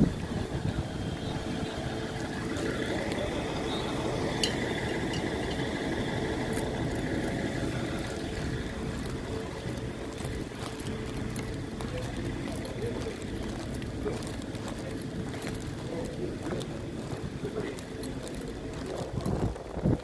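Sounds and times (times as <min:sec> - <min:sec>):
diesel train engine droning: 0:00.0 - 0:20.0.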